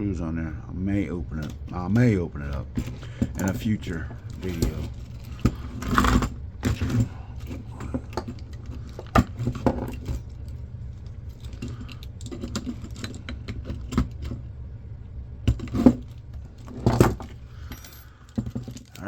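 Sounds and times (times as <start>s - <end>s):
steady low hum: 0.0s - 19.0s
metal parts and tools clinking: 1.3s - 14.4s, 15.5s - 19.0s.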